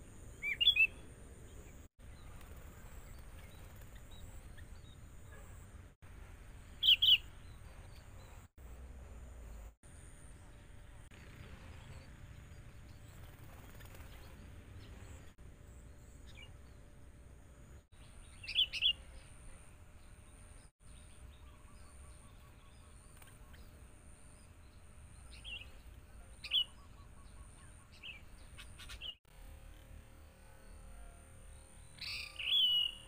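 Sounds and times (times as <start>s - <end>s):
birds chirping: 0.0s - 5.9s, 6.6s - 8.5s, 9.2s - 29.2s.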